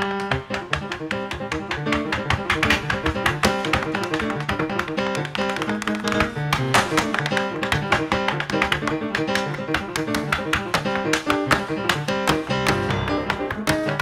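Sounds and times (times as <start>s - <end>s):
acoustic piano: 0.0s - 14.0s
tap shoes clicking on stage: 0.0s - 14.0s.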